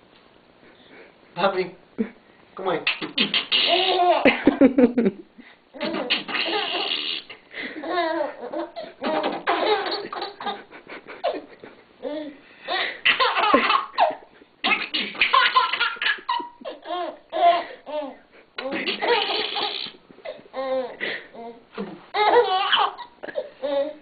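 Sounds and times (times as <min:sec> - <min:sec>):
baby laughing: 0:02.9 - 0:04.7, 0:05.8 - 0:21.5, 0:22.2 - 0:24.0.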